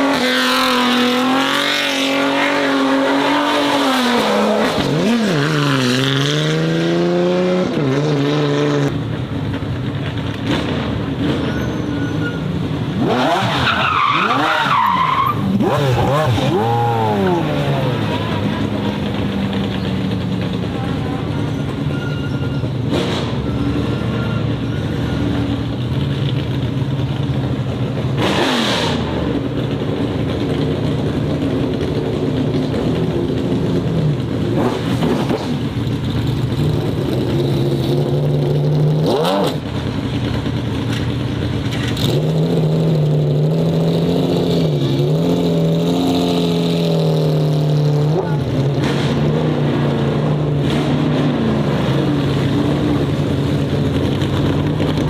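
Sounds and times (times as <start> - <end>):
car engine at high revs: 0.0 - 11.7, 12.3 - 21.9, 22.8 - 55.0.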